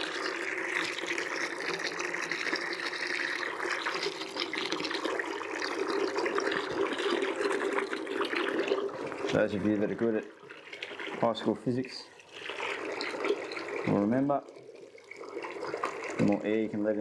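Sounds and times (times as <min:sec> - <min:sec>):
water splashing into plastic bucket: 0:00.0 - 0:17.0.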